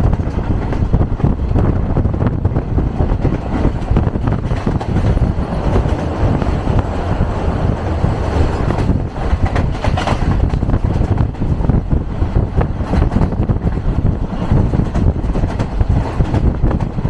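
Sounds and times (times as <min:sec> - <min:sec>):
moving train rumbling: 0:00.0 - 0:17.0.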